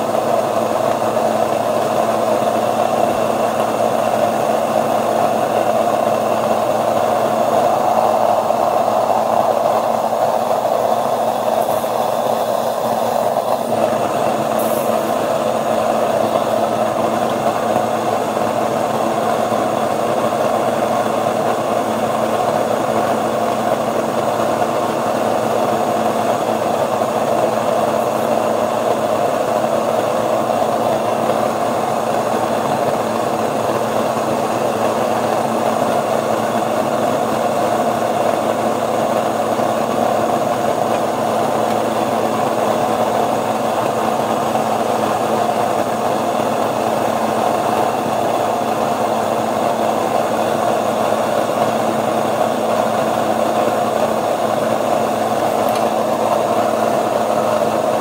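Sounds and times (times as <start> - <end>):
stand mixer kneading dough: 0.0 - 11.4, 13.0 - 58.0.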